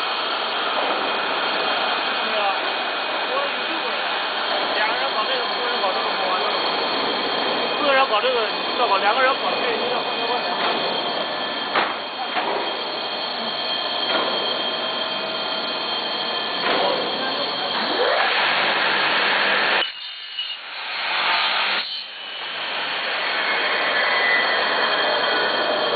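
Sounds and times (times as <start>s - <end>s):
industrial machine running: 0.0s - 25.9s
machine whining tones: 0.0s - 25.9s.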